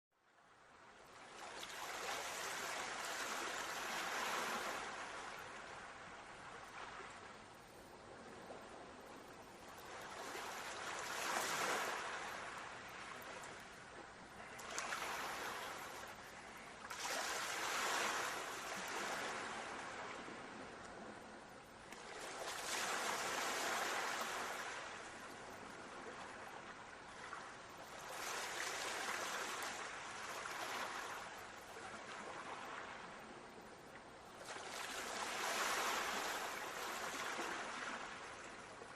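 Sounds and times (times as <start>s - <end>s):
sea waves on a beach: 0.2s - 38.9s.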